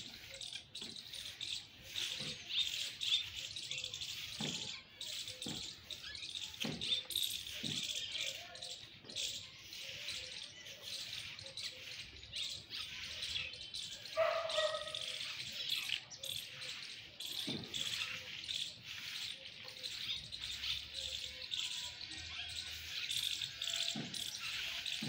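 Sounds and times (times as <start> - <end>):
birds chirping chorus: 0.0 - 25.0.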